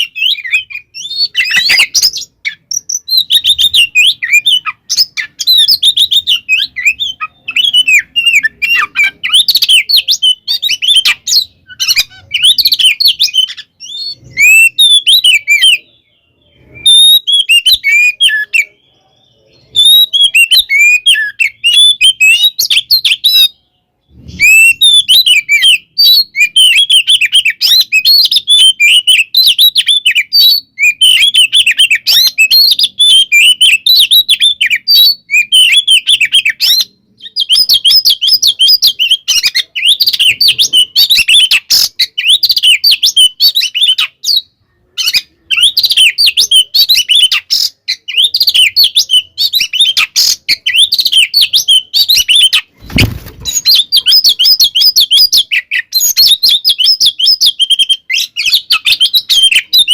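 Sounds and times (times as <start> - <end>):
magpie-robin singing: 0.0 - 59.9.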